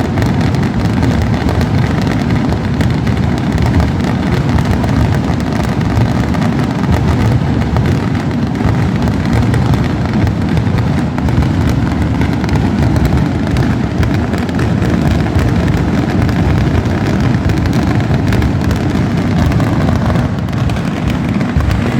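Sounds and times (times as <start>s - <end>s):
firework rockets exploding: 0.0s - 21.9s.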